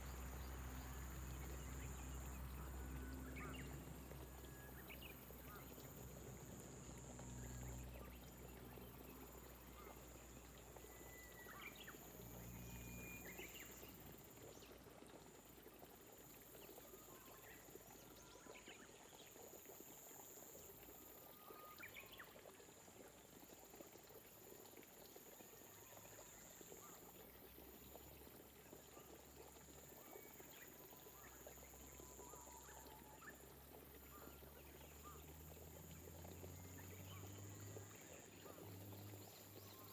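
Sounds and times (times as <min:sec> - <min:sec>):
faint gentle rain: 0:00.0 - 0:39.9.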